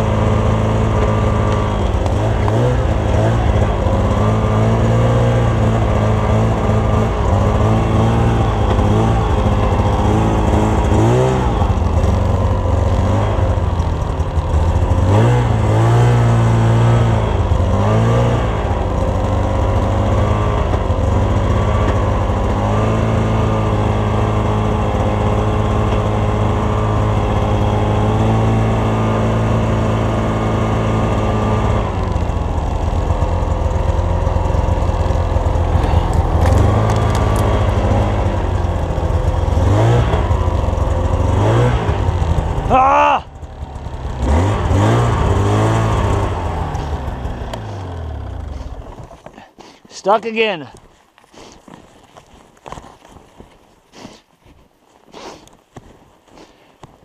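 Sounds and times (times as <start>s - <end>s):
snowmobile engine revving: 0.0s - 51.6s.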